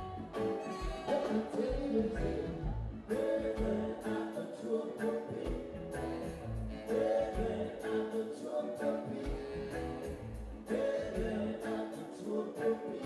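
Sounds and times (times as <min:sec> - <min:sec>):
electric guitars: 0:00.0 - 0:13.0
man singing lead: 0:00.0 - 0:13.0.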